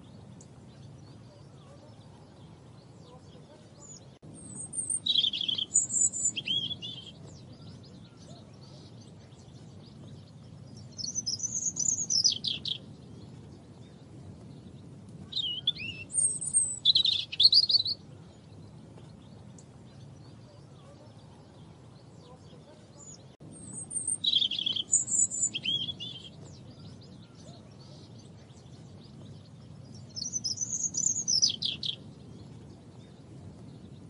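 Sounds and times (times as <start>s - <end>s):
robin singing: 0.0s - 34.0s.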